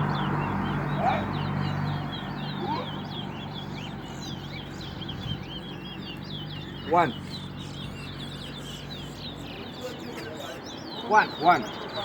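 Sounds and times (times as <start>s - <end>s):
finch chirping song: 0.0s - 12.0s.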